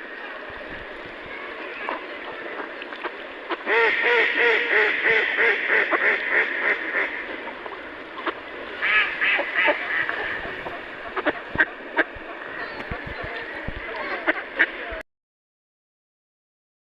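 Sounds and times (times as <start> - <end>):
ducks quacking: 1.3 - 15.0.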